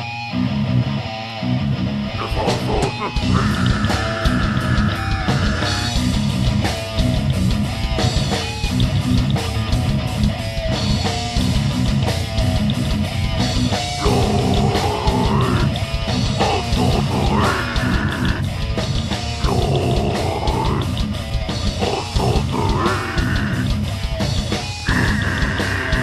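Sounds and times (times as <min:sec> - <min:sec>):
heavy metal band playing: 0:00.0 - 0:26.0.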